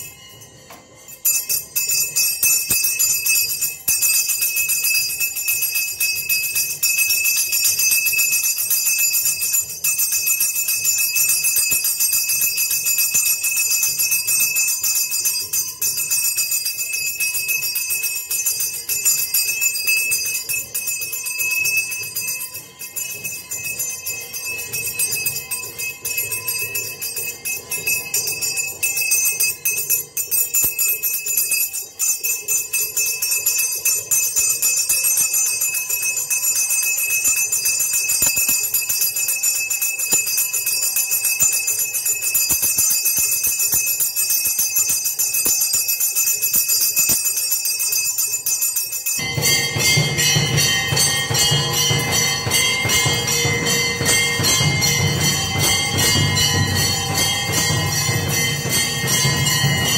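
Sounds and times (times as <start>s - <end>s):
hand bell ringing: 0.0s - 59.9s.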